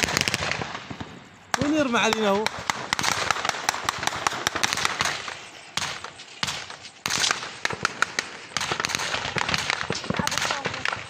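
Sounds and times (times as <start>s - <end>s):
small-arms gunfire: 0.0s - 11.0s.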